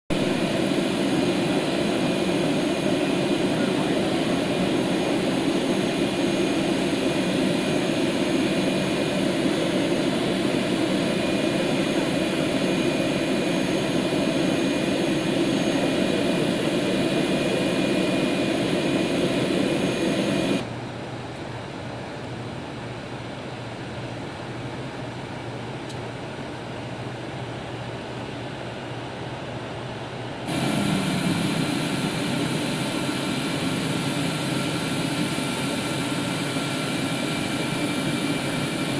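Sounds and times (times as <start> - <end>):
jet engines rushing and whining: 0.1 - 20.7, 26.6 - 38.9.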